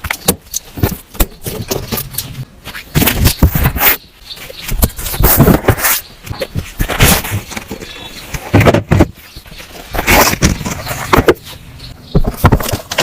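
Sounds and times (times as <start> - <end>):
objects scraping and clicking: 0.0 - 11.6.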